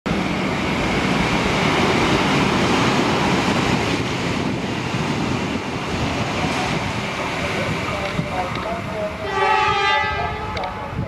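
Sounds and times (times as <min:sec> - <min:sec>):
electric train passing at speed: 0:00.1 - 0:11.0.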